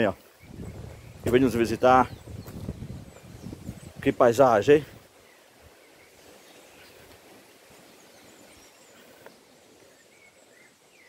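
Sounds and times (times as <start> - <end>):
wind and drizzle hiss: 0.0 - 11.0.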